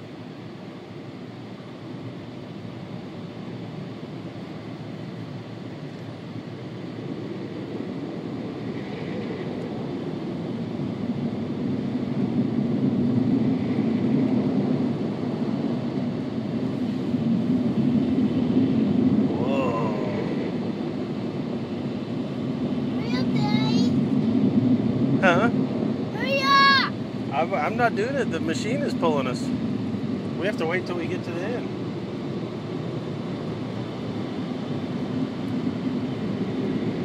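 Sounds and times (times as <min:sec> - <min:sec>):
car wash blowers rushing: 0:00.0 - 0:37.0.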